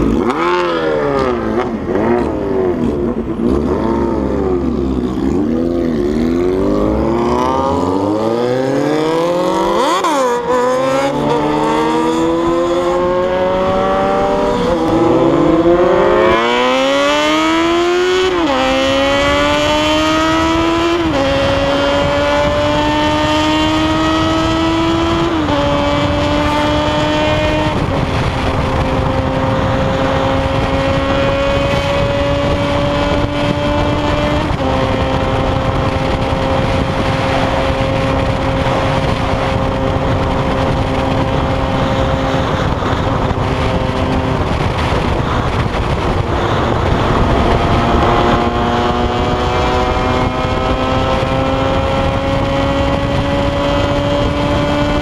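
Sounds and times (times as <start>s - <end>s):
motorcycle engine accelerating: 0.0s - 55.0s
wind noise: 0.0s - 55.0s.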